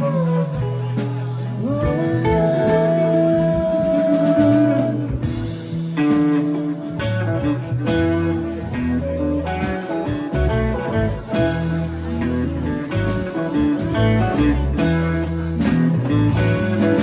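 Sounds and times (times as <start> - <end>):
bass: 0.0 - 17.0
guitar: 0.0 - 17.0.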